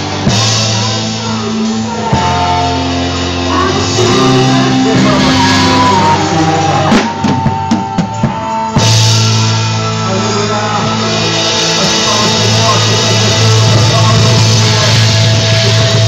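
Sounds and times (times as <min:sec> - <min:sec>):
worship band music: 0:00.0 - 0:16.0.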